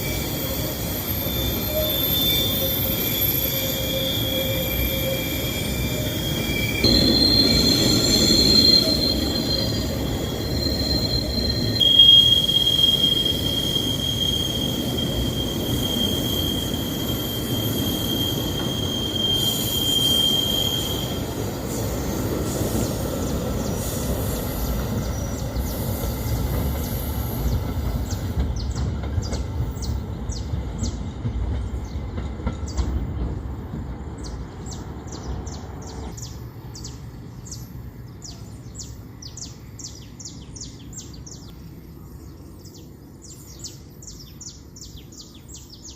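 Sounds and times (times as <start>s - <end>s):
train rumbling on rails: 0.0s - 45.9s
train wheels squealing: 0.0s - 45.9s
birds chirping: 0.8s - 45.9s.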